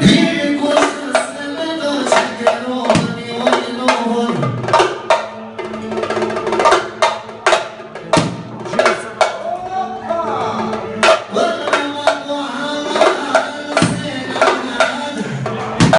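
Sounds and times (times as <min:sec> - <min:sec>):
drum beat: 0:00.0 - 0:15.9.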